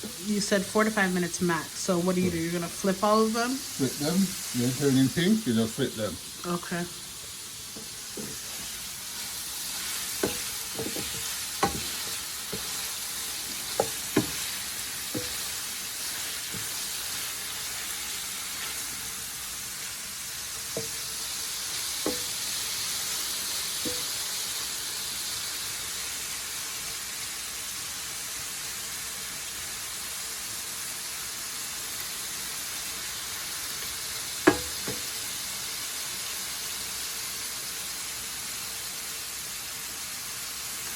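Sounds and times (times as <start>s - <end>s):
shrimp sizzling in a frying pan: 0.0s - 40.9s.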